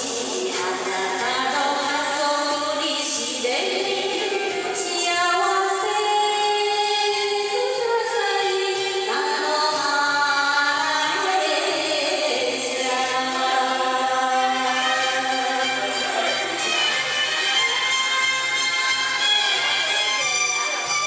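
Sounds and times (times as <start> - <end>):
woman singing into microphone: 0.0 - 19.9
karaoke backing track: 0.0 - 21.0.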